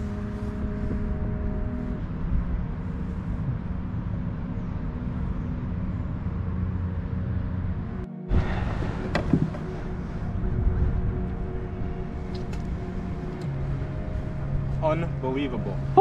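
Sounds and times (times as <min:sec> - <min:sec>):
boat engine low rumble: 0:00.0 - 0:16.0.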